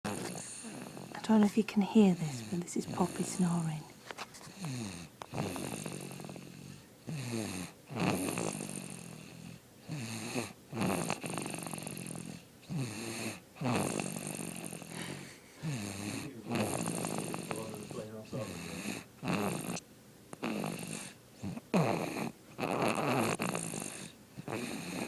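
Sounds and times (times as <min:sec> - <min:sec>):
baby snoring: 0:00.1 - 0:25.0.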